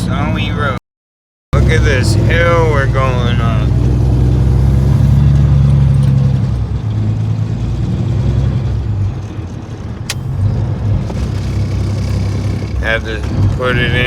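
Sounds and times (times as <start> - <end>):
truck engine pulling uphill: 1.6 - 14.0.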